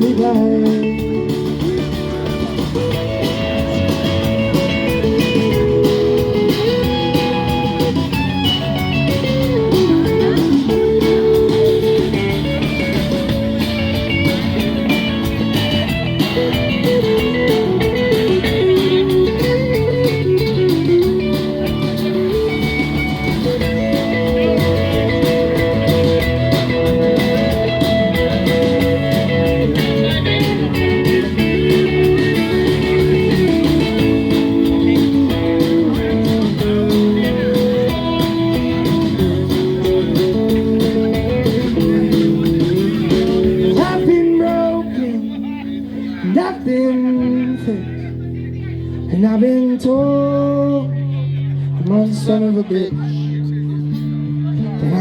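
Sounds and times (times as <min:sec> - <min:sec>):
electric guitar solo: 0:00.0 - 0:49.1
band rhythm section: 0:00.0 - 0:50.1.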